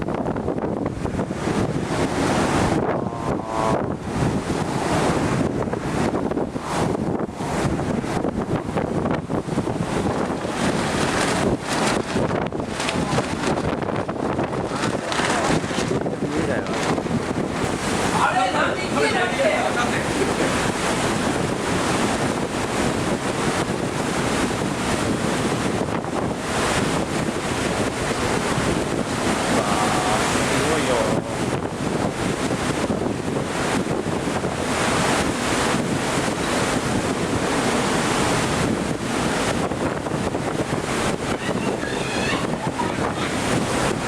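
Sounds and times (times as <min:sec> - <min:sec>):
strong wind gusting: 0:00.0 - 0:44.0
wind buffeting microphone: 0:00.0 - 0:44.0.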